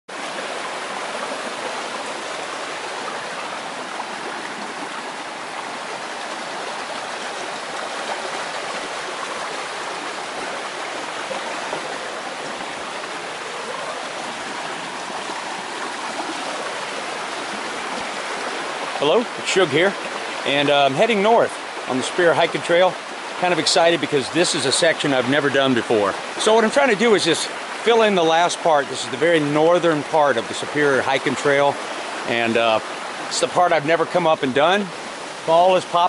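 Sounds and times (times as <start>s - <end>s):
creek water flowing over stones: 0.1s - 36.0s.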